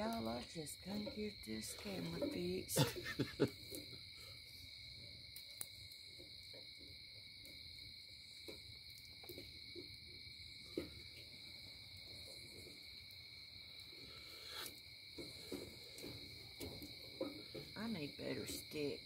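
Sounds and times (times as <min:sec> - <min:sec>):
crickets chirping: 0:00.0 - 0:19.0
wood fire popping: 0:00.0 - 0:19.0.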